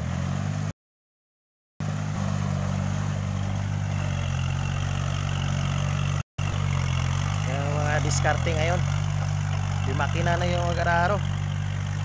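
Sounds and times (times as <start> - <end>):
diesel tractor engine running: 1.8 - 12.0.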